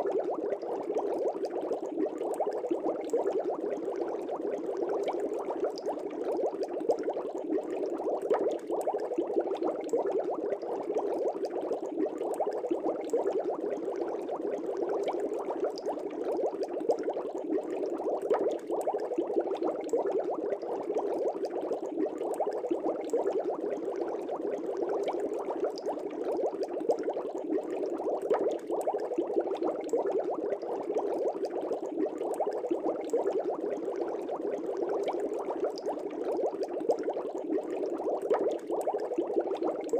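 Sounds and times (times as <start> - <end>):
aquarium air bubbles: 0.0 - 39.9.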